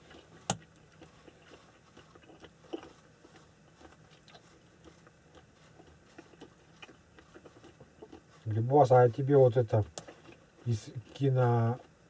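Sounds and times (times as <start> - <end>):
faint crunching and chewing: 0.0 - 12.0.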